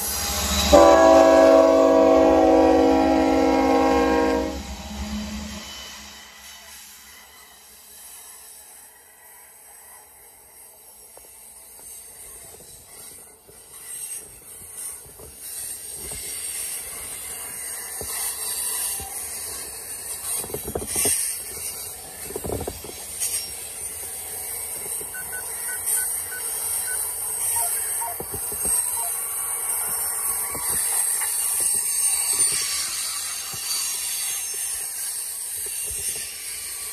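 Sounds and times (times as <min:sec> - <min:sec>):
train wheels on rails: 0:00.0 - 0:36.9.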